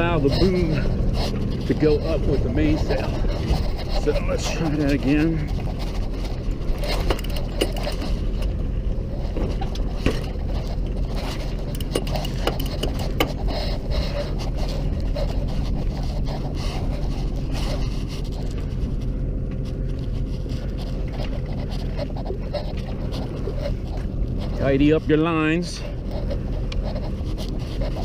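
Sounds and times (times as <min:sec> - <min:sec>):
boat engine running: 0:00.0 - 0:28.0
sail hoisting scrapes and rattles: 0:00.0 - 0:28.0.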